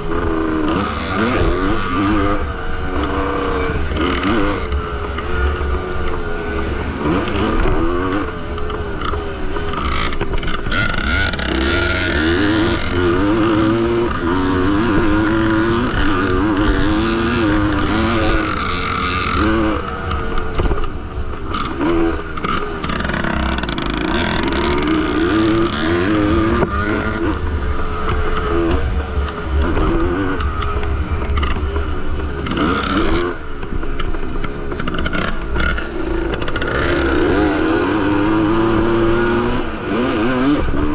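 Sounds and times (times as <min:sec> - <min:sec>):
two-stroke motorcycle engine revving: 0:00.0 - 0:40.9.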